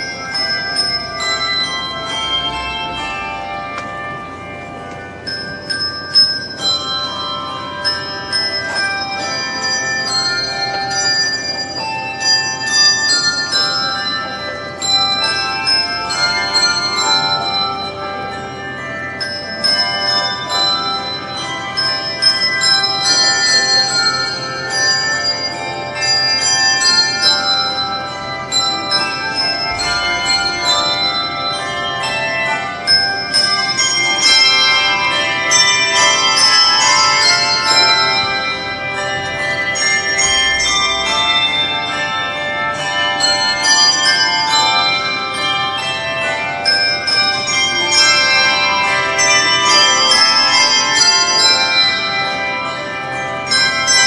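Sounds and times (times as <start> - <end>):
handbells ringing: 0.0 - 54.0.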